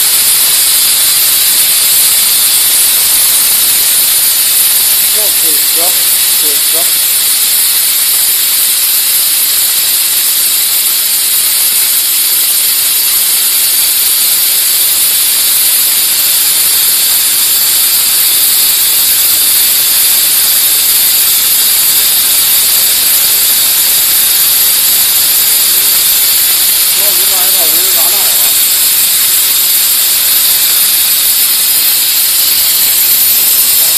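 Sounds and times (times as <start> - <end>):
steam jet hissing: 0.0 - 33.9.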